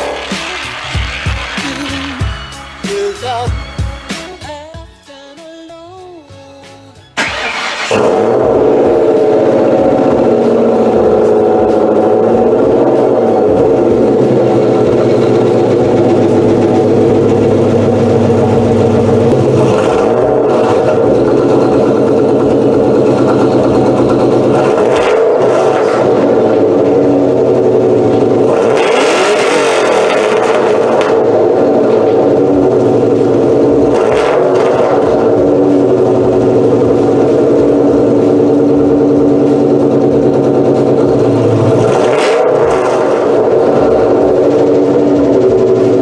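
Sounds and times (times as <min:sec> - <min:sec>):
car engine idling and revving: 0:00.0 - 0:04.7, 0:06.5 - 0:46.0.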